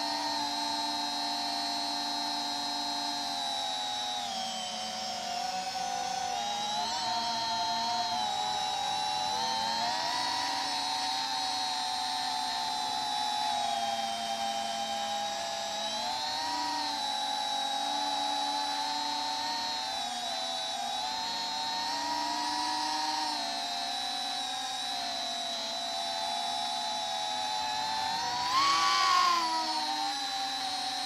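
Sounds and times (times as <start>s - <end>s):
drone motors whining: 0.0s - 31.0s.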